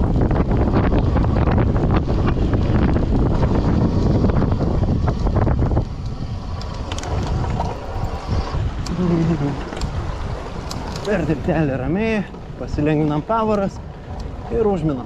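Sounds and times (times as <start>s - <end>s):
tyres rumbling on dirt: 0.0s - 15.0s
wind buffeting microphone: 0.0s - 15.0s.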